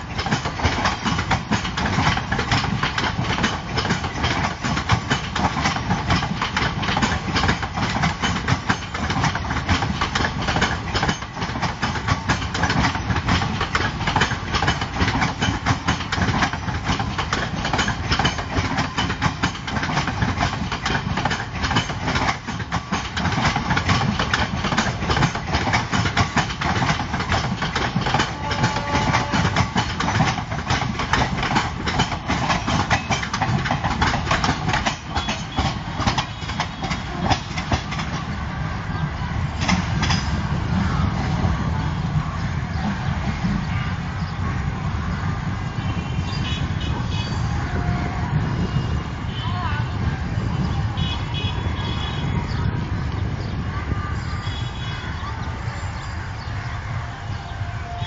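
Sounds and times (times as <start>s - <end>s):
train wheels clattering: 0.0s - 47.5s
train rumble: 0.0s - 58.0s.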